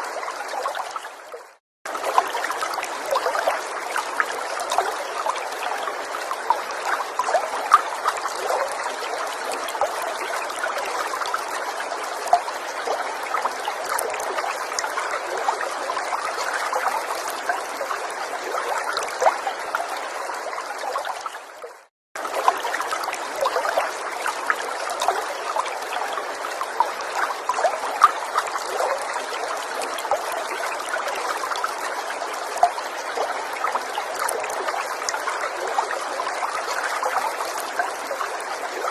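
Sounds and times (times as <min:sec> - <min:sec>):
small water splashes: 0:00.0 - 0:38.9
stream flowing: 0:00.0 - 0:38.9.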